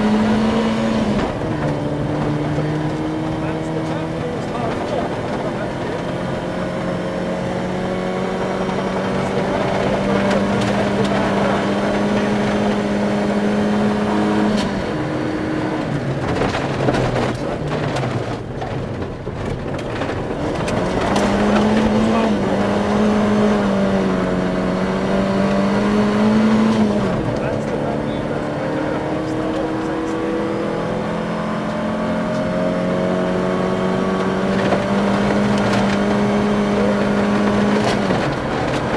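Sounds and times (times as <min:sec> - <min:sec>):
rally car engine at high revs: 0:00.0 - 0:38.9.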